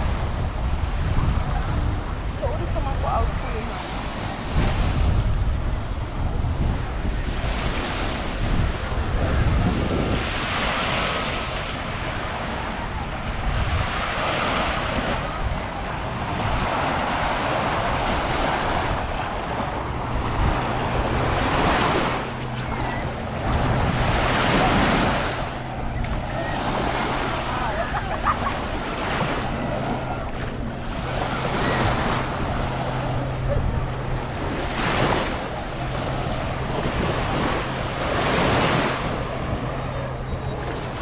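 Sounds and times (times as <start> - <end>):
waves washing onto sandy beach: 0.0 - 41.0
wind rumbling on microphone: 0.0 - 41.0.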